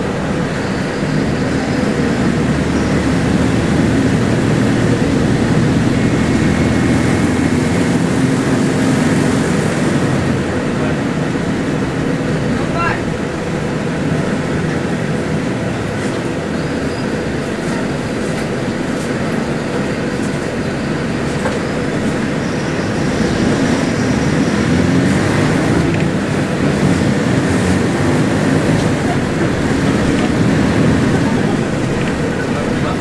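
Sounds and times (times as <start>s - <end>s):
bus engine rumbling: 0.0s - 33.0s.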